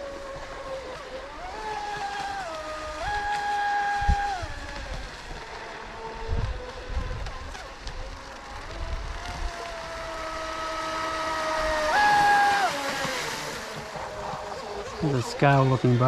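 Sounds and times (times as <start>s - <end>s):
electric boat motor whining: 0.0s - 16.0s.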